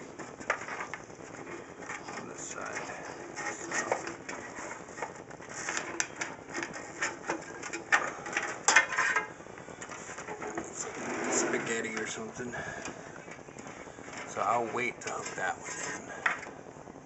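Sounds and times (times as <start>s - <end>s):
cables rustling and clicking: 0.0s - 17.0s.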